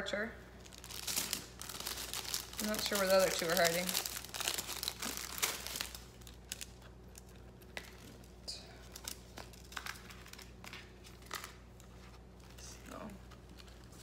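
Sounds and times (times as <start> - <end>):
plastic bag crinkling: 0.6 - 14.0.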